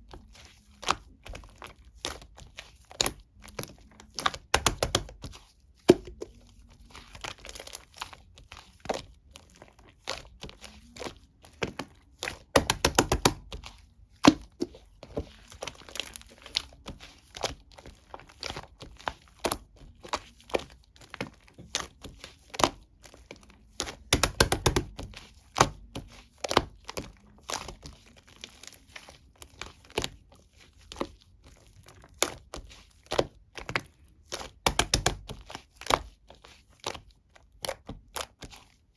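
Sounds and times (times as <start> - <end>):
slime squished by hand: 0.1 - 38.9.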